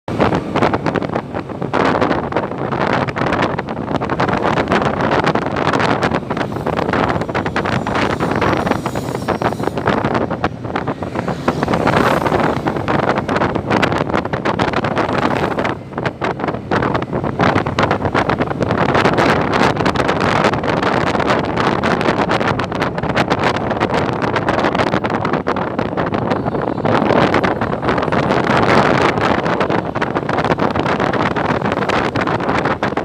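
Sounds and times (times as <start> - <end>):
moving vehicle noise: 0.0 - 33.0
wind buffeting microphone: 0.1 - 33.0.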